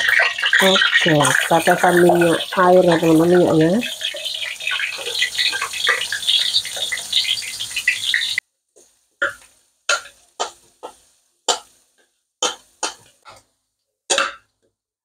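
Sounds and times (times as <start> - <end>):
paste sizzling in a hot wok: 0.0 - 13.4.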